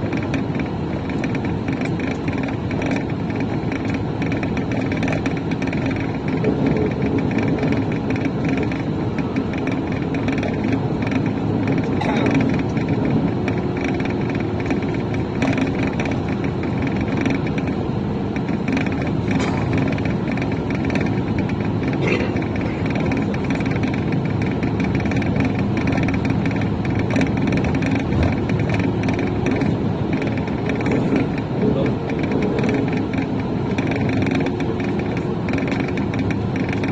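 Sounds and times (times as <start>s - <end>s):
vehicle rumble and hiss: 0.0s - 36.9s.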